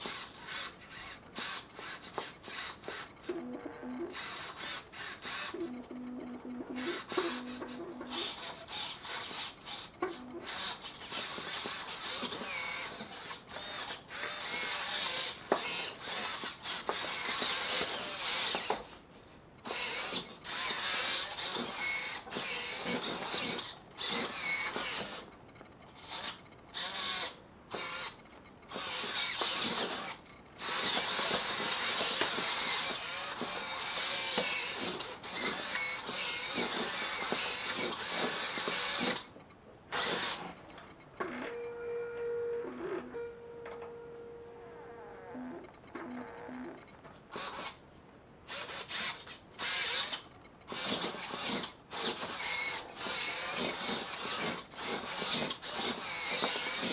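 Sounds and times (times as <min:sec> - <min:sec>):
servo motors whirring: 0:00.0 - 0:19.0, 0:19.6 - 0:25.3, 0:25.9 - 0:39.3, 0:39.9 - 0:40.6, 0:41.2 - 0:47.8, 0:48.5 - 0:56.9.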